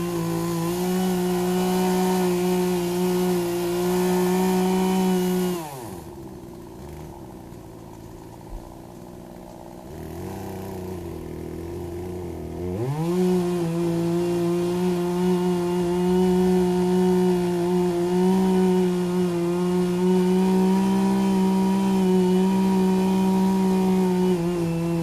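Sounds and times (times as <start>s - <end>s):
chainsaw revving and cutting: 0.0s - 25.0s.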